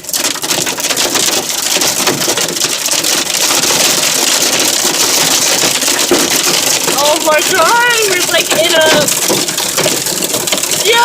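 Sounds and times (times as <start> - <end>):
hailstones pelting car roof: 0.0 - 11.0.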